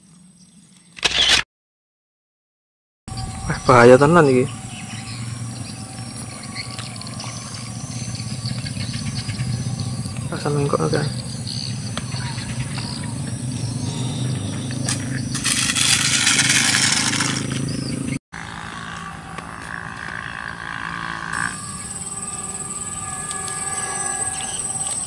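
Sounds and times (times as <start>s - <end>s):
small electric motors whining: 1.0s - 1.4s, 3.2s - 25.0s
insects chirping: 3.1s - 18.2s, 19.9s - 25.0s.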